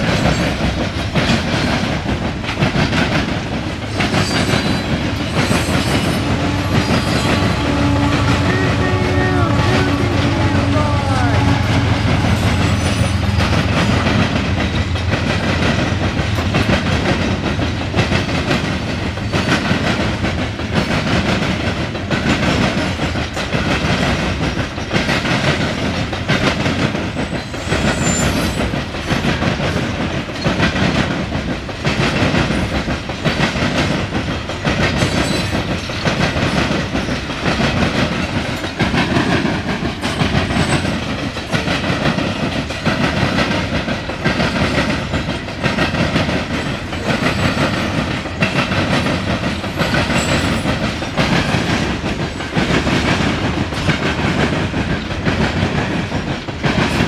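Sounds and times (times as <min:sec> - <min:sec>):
steel wheels clattering: 0:00.0 - 0:08.8, 0:11.4 - 0:57.0
diesel locomotive engine rumble: 0:00.0 - 0:57.0.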